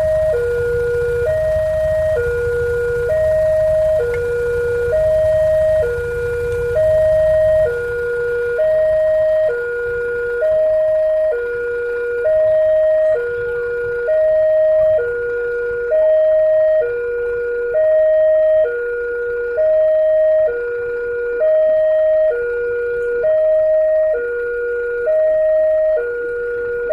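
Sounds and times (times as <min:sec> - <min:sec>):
level-crossing two-tone alarm: 0:00.0 - 0:26.9.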